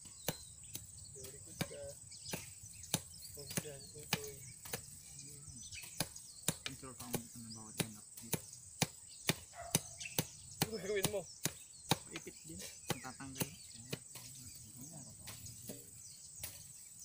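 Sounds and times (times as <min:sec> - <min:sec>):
hoe chopping dry soil: 0:00.0 - 0:14.6, 0:15.2 - 0:17.0.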